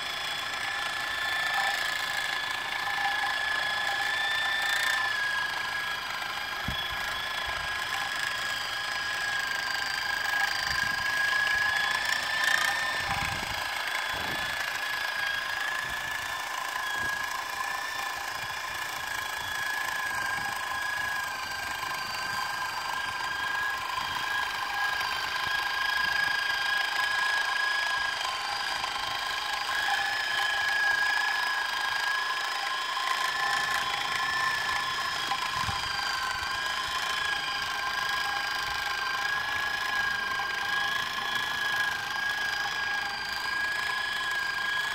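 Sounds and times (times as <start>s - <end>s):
electric sewing machine whine: 0.0s - 44.9s.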